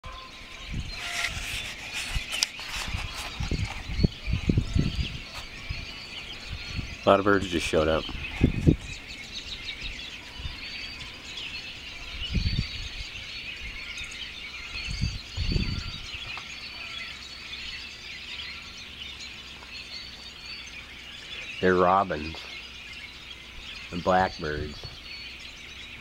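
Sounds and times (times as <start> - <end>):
flock of birds chirping: 0.0 - 26.0.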